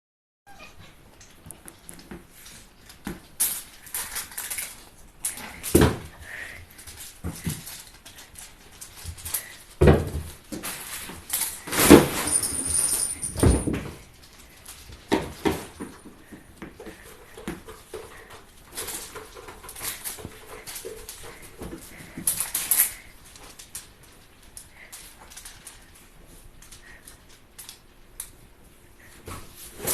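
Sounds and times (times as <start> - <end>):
crinkly toy rustling: 1.2 - 29.9.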